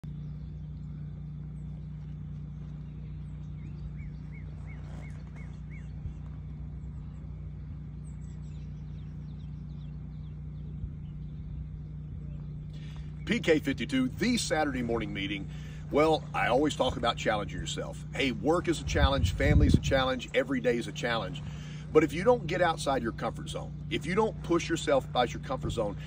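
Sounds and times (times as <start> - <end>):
birds chirping: 0.0 - 26.0
low hum: 0.0 - 26.0.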